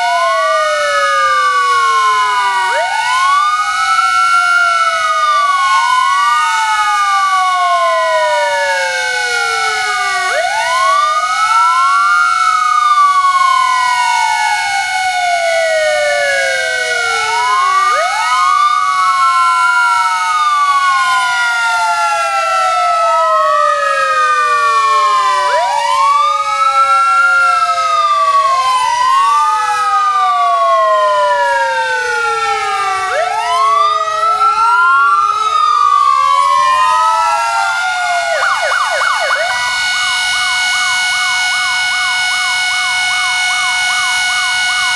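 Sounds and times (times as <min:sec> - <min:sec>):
sirens wailing: 0:00.0 - 0:44.9.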